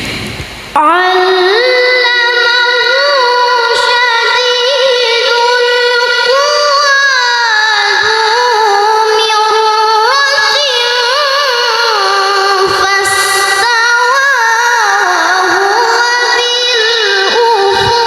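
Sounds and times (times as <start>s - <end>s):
child reciting melodically: 0.8s - 18.0s.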